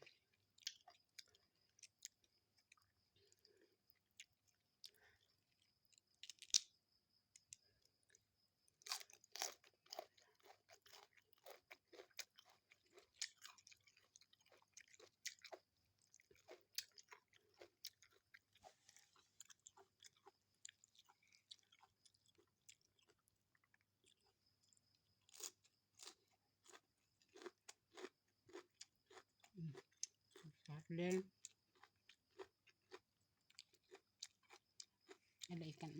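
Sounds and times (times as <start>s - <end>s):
person chewing food: 0.0s - 30.7s, 31.4s - 35.6s.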